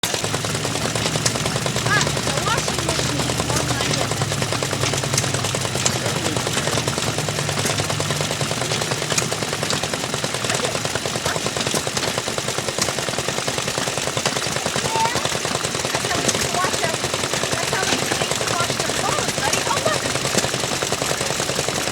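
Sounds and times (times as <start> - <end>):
small gasoline engine running: 0.0 - 21.9.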